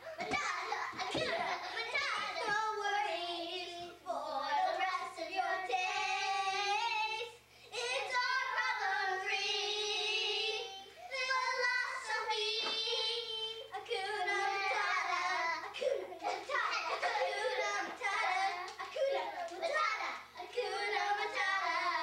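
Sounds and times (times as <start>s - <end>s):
girls singing together: 0.0s - 22.0s.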